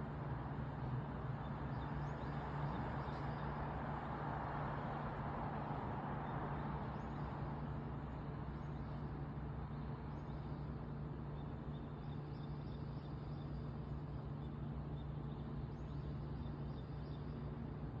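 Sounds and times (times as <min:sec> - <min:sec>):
traffic noise with low hum: 0:00.0 - 0:18.0.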